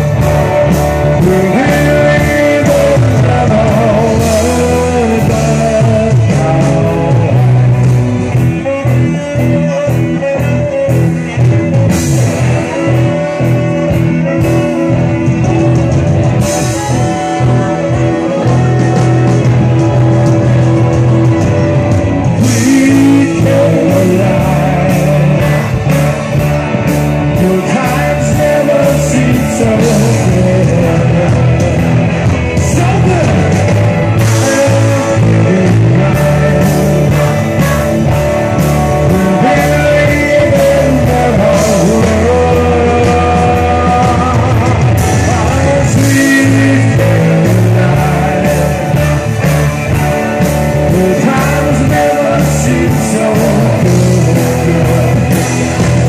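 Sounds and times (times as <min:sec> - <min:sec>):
drums beating: 0:00.0 - 0:56.0
loud rock music: 0:00.0 - 0:56.0
person singing: 0:00.0 - 0:56.0.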